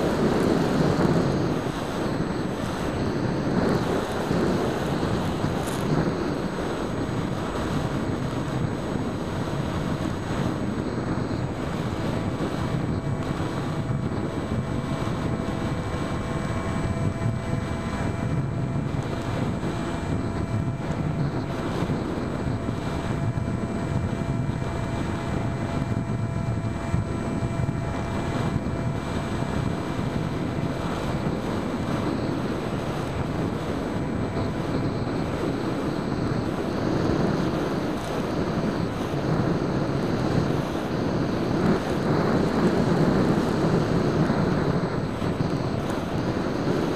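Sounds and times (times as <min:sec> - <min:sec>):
electric motor whine: 0:00.0 - 0:46.9
wind rush over microphone: 0:00.0 - 0:46.9.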